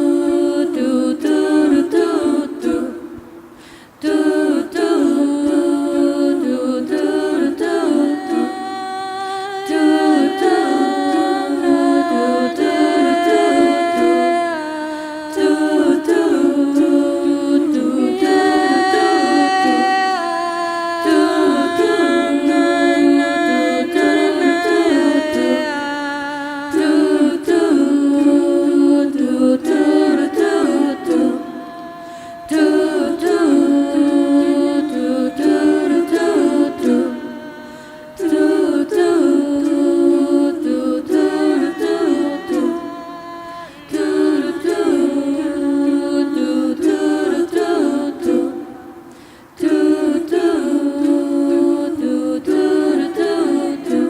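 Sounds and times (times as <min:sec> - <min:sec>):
vocal group singing in harmony: 0:00.0 - 0:54.0.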